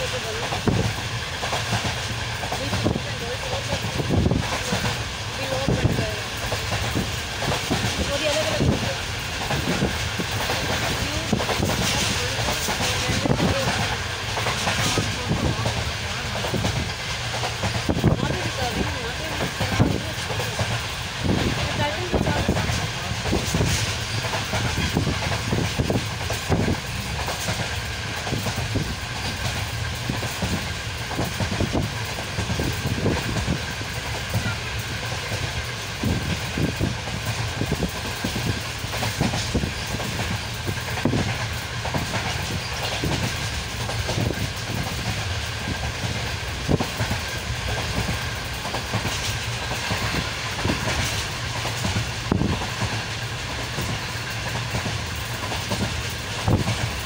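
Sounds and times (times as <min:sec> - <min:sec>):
train rumble: 0:00.0 - 0:57.0
wheels clacking over rail joints: 0:00.0 - 0:57.0.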